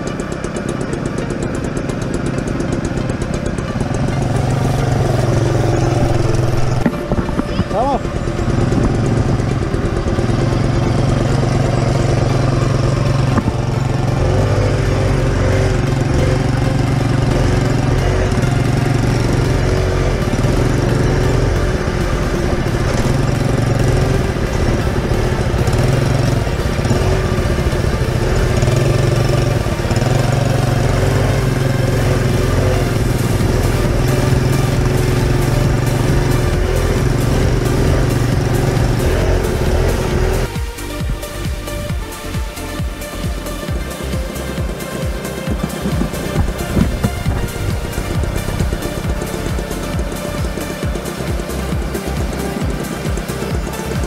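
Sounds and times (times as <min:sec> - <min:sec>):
rattling over dirt trail: 0:00.0 - 0:54.0
small petrol engine running: 0:00.0 - 0:54.0.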